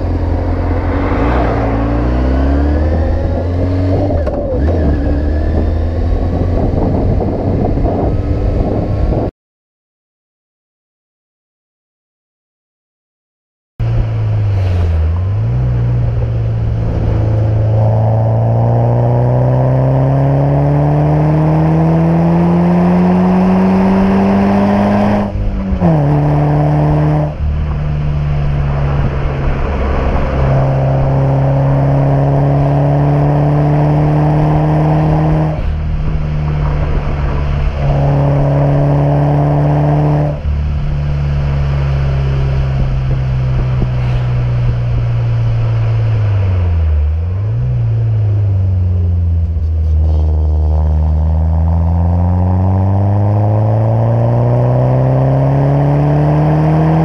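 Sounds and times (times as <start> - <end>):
car exhaust while driving: 0.0 - 9.3, 13.8 - 57.0.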